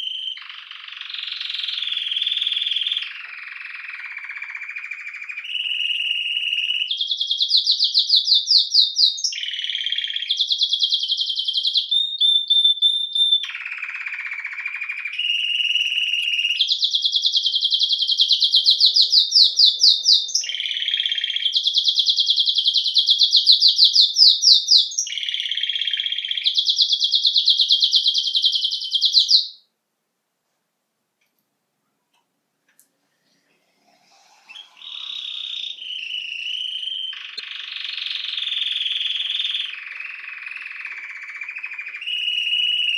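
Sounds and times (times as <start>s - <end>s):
canary singing trills: 0.0s - 29.7s, 33.4s - 42.9s.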